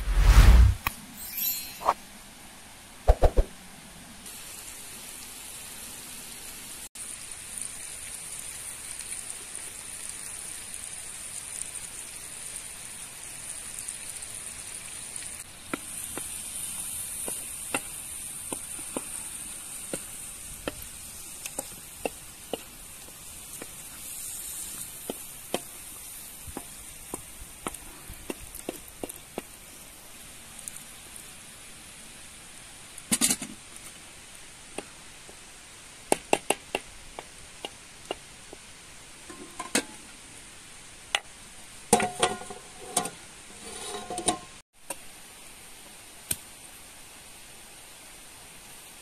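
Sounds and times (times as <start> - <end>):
meat sizzling in a wok: 4.3 - 49.0.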